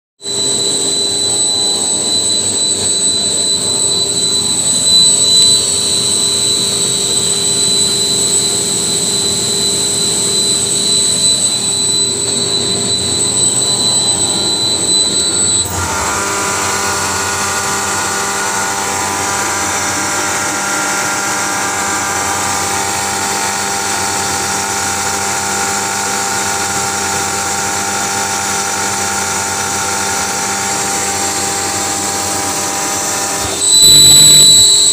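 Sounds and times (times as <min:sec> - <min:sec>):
air compressor whining: 0:00.2 - 0:34.9.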